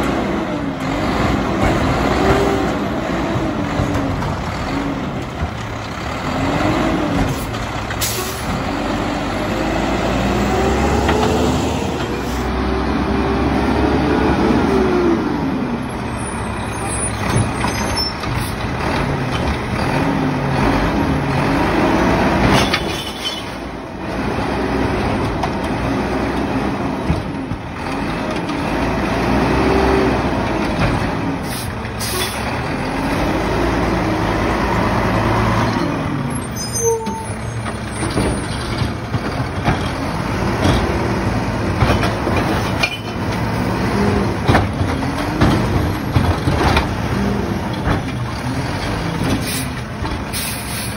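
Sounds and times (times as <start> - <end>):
truck engine revving: 0.0 - 22.9, 23.7 - 36.6, 37.3 - 50.9.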